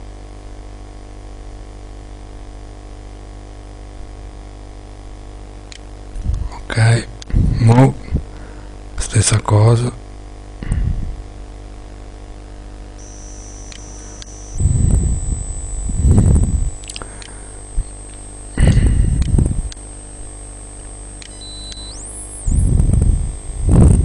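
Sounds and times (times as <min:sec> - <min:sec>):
electrical hum and hiss: 0:00.0 - 0:24.0.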